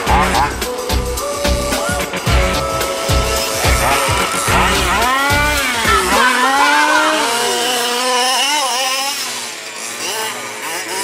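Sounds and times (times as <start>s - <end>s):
rc buggy engine revving: 0.0s - 11.0s.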